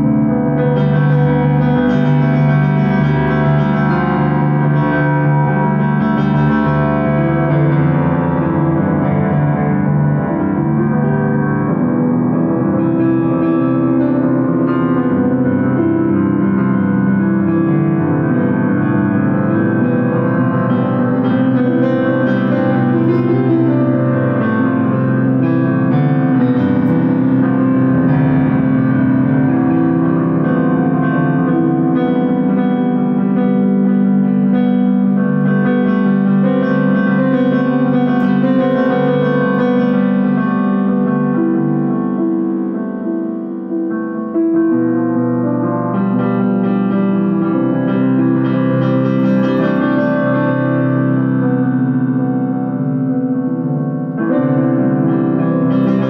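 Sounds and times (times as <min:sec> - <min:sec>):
keyboard chords and notes: 0:00.0 - 0:56.0.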